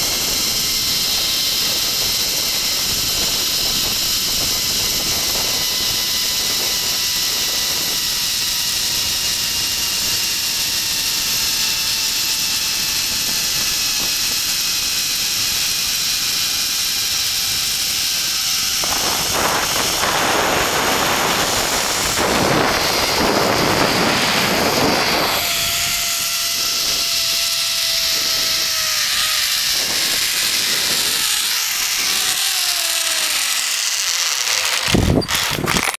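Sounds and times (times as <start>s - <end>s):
wind rushing on microphone: 0.0s - 16.2s, 17.4s - 33.4s, 34.8s - 35.9s
zipline pulleys whining on cable: 0.0s - 35.9s.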